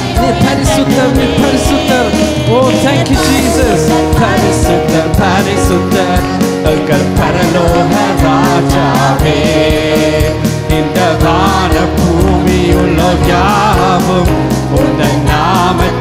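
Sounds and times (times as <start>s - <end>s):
man singing into microphone: 0.0s - 16.0s
music with steady drum beat: 0.0s - 16.0s.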